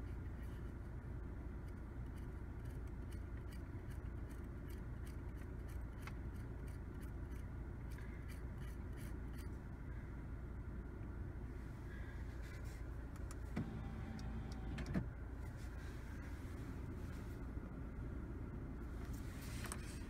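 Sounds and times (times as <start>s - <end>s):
low cabin hum: 0.0s - 20.0s.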